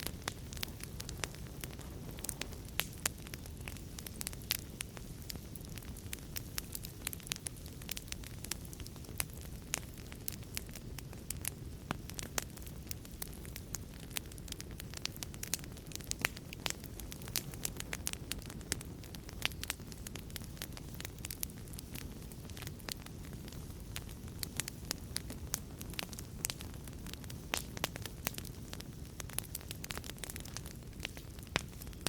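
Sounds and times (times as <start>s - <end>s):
low rumble of flames: 0.0s - 32.0s
wood fire crackling: 0.0s - 32.0s.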